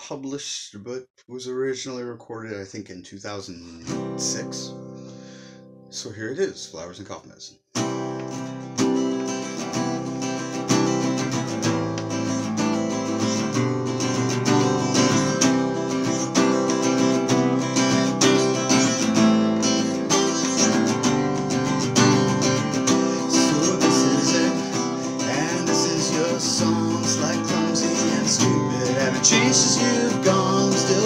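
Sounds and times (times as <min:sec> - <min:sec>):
acoustic guitar strumming: 0:03.8 - 0:05.9, 0:07.8 - 0:31.0.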